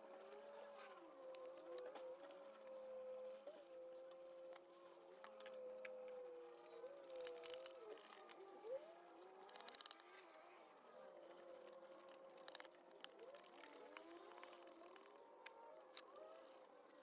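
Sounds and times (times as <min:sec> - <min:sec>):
faint wavering tones: 0:00.0 - 0:17.0.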